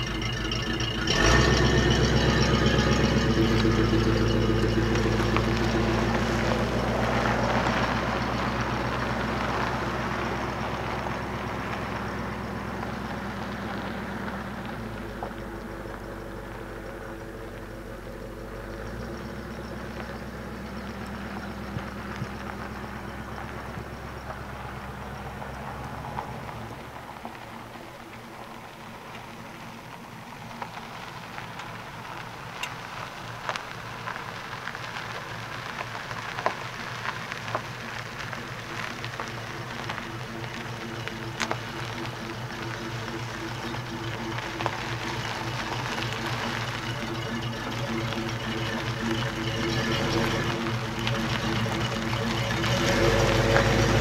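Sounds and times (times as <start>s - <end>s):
car engine running at low speed: 0.0s - 54.0s
small stones popping: 0.0s - 54.0s
tyres crunching over gravel: 0.0s - 54.0s.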